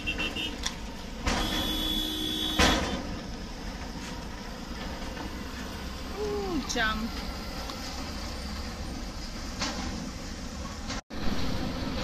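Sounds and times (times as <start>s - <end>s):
cars rolling past: 0.0s - 12.0s.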